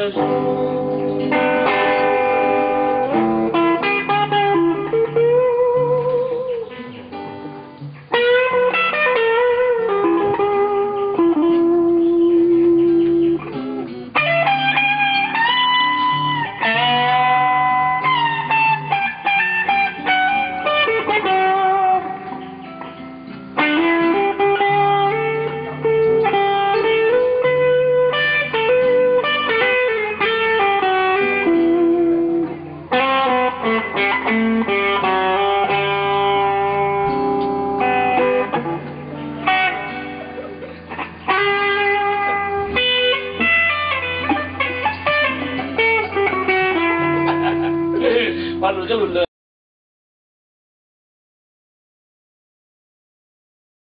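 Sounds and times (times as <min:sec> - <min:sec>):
electric guitar lead with vibrato: 0:00.0 - 0:49.2.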